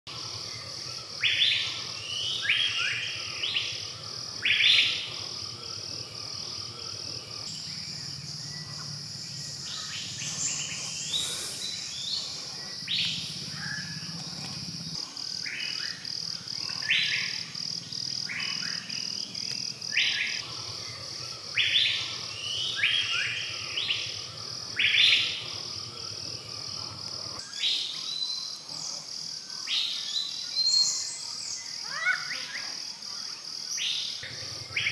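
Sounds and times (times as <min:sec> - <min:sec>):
high-pitched insect drone: 0:00.1 - 0:34.9
birds calling: 0:00.2 - 0:32.8.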